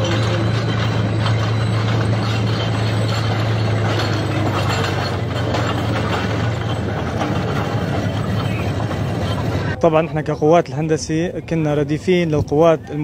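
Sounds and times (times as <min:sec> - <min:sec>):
metallic clatter of tracks: 0:00.0 - 0:13.0
tank engine droning: 0:00.0 - 0:13.0.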